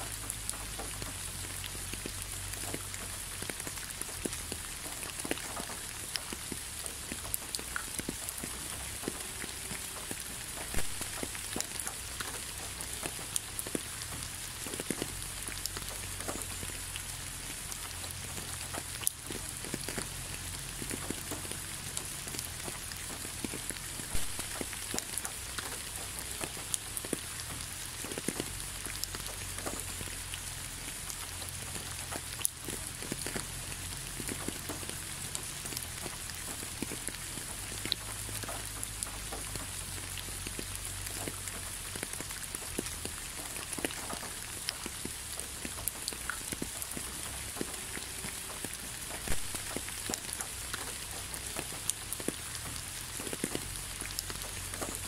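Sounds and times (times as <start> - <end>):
raindrops ticking close by: 0.0 - 55.0
steady rain hiss: 0.0 - 55.0.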